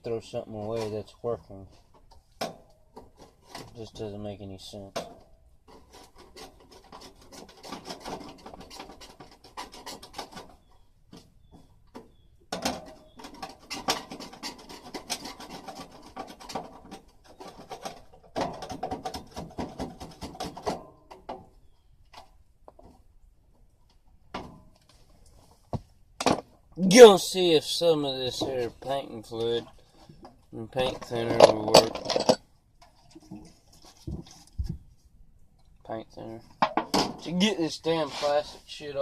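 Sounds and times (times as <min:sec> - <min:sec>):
scraping plastic: 0:00.7 - 0:23.1, 0:28.2 - 0:35.1, 0:36.2 - 0:39.0.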